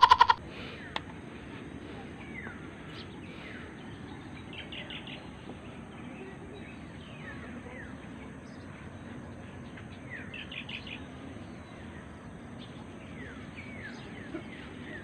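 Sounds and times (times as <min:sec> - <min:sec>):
birds chirping: 0:00.0 - 0:15.0
steady outdoor hiss: 0:00.0 - 0:15.0.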